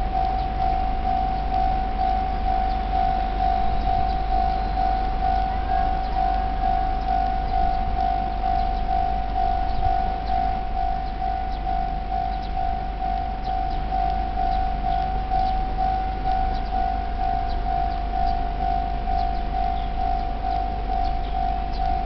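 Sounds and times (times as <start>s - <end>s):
level crossing warning bell: 0.0s - 22.0s.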